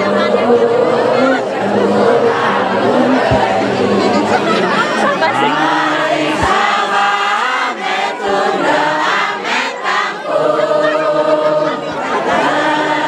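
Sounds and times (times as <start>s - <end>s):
group chanting in long notes: 0.0s - 13.0s.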